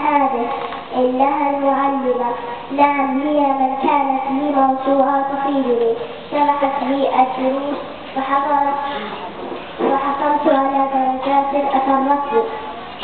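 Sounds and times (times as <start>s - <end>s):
girl chanting melodically: 0.0s - 12.9s.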